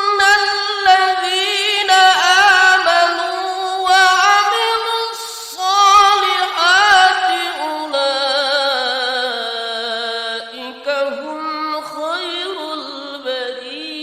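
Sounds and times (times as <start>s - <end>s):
person reciting melodically: 0.0s - 14.0s.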